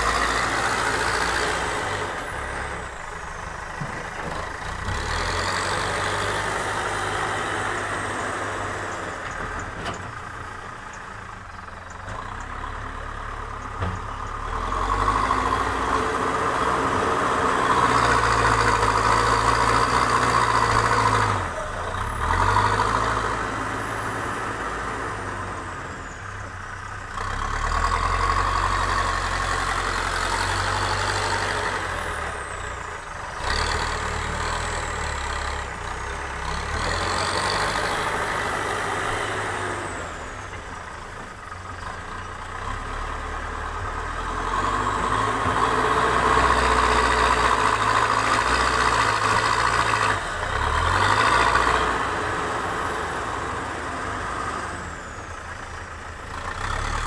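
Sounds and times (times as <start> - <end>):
backhoe diesel engine revving: 0.0 - 57.0.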